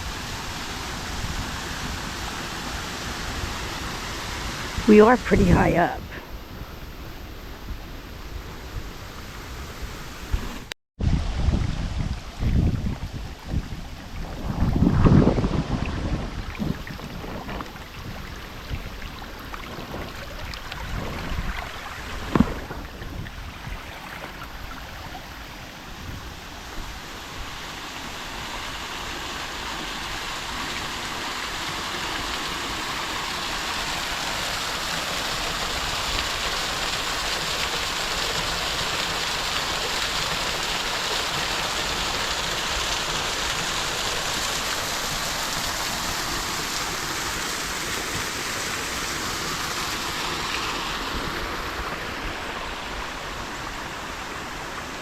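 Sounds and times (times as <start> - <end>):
creek water splashing over rocks: 9.1 - 55.0.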